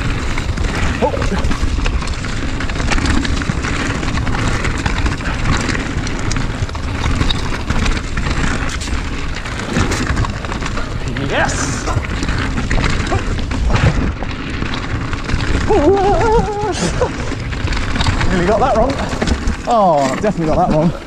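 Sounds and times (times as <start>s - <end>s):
bike clattering over rough trail: 0.0s - 21.0s
bike tyre noise: 0.0s - 21.0s.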